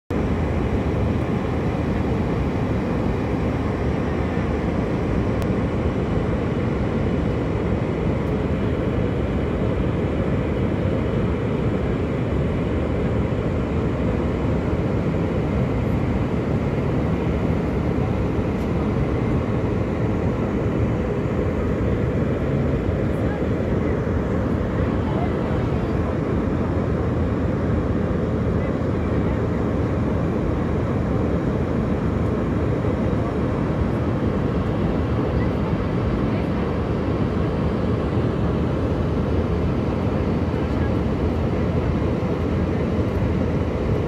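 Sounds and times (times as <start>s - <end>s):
airliner cabin engine rush: 0.1s - 44.0s.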